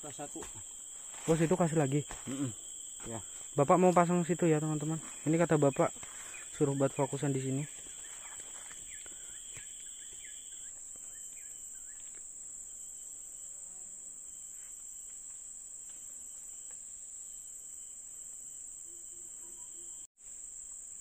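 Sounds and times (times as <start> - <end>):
shrill insect chorus: 0.0 - 21.0.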